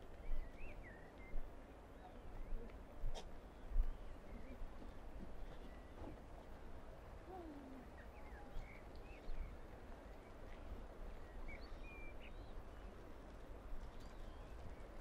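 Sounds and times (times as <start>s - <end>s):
bird calls and chirps: 0.1s - 6.2s, 7.8s - 13.1s, 13.8s - 15.0s.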